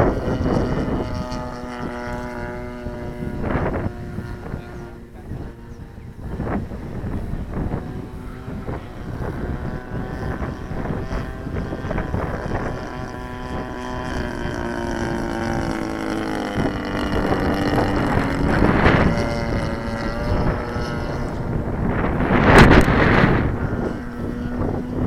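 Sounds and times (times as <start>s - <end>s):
aircraft engine droning: 0.0s - 25.0s
wind buffeting microphone: 0.0s - 25.0s.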